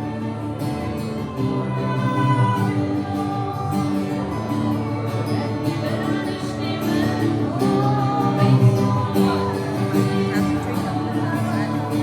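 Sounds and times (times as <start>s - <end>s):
singing: 0.0s - 12.0s.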